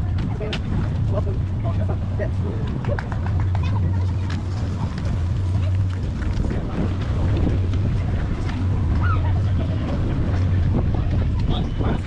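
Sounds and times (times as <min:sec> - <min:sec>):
vehicle engine humming: 0:00.0 - 0:12.0
wind buffeting microphone: 0:00.0 - 0:12.0.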